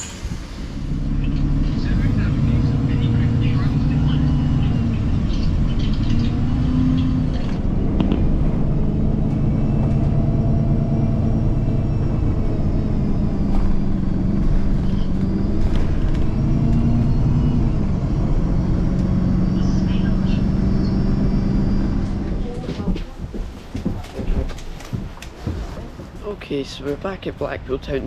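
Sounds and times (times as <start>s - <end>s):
bus engine droning: 0.0s - 28.0s
road rumble: 0.0s - 28.0s.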